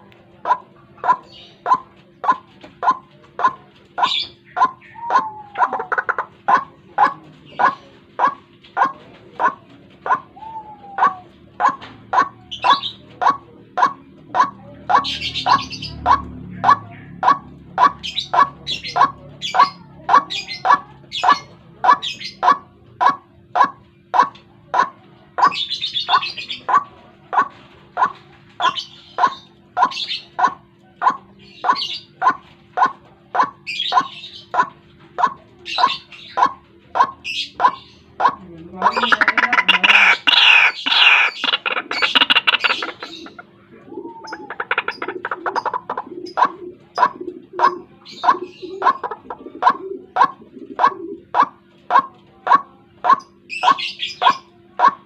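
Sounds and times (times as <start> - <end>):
higher chattering bird notes: 0.0 - 55.0
bird harsh repeated call: 0.4 - 55.0.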